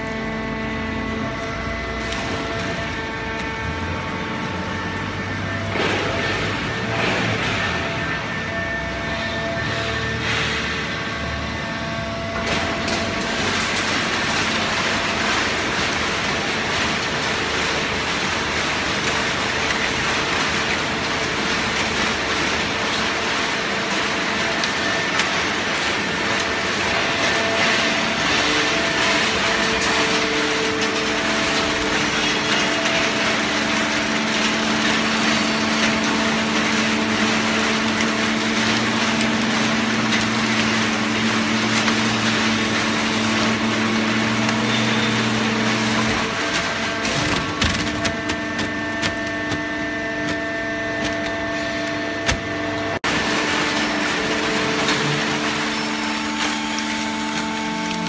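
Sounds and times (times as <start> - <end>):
baler mechanical noise: 0.0 - 58.0
electric motor and pump hum: 0.0 - 58.0.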